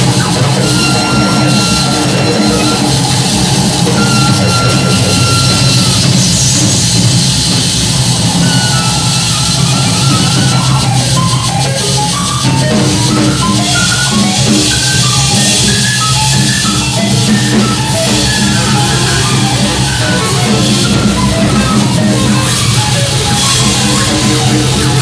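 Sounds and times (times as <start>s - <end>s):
drum kit with cymbal wash: 0.0s - 25.0s
low electronic drone: 0.0s - 25.0s
pitched electronic blips: 0.0s - 25.0s.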